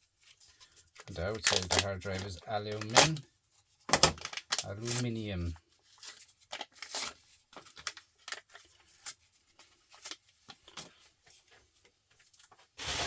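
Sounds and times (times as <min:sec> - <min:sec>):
laptop parts handled by hand: 0:00.0 - 0:05.1, 0:05.8 - 0:12.8.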